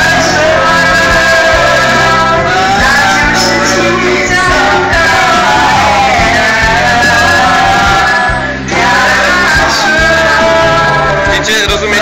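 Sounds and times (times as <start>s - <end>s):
loud backing track: 0.0s - 12.0s.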